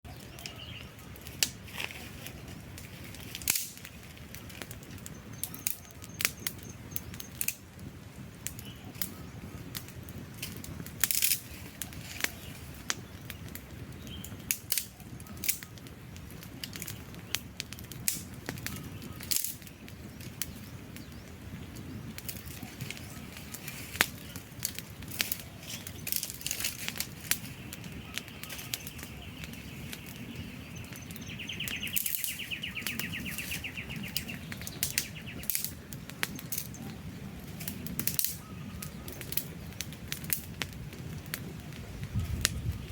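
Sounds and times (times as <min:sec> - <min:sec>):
campfire crackling: 0:00.0 - 0:42.9
sharp pops and snaps: 0:00.1 - 0:42.8
burning logs rushing: 0:00.1 - 0:42.9.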